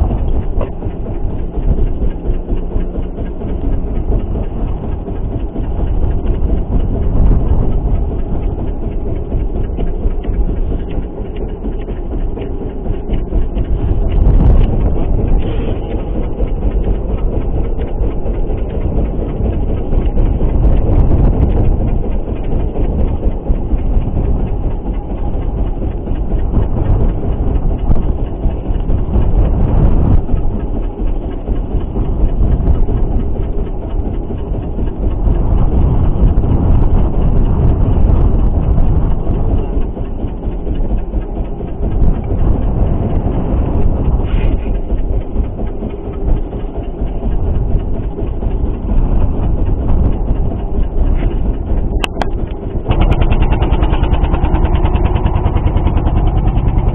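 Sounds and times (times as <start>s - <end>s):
boat engine drone: 0.0s - 56.9s
wind buffeting microphone: 0.0s - 56.9s.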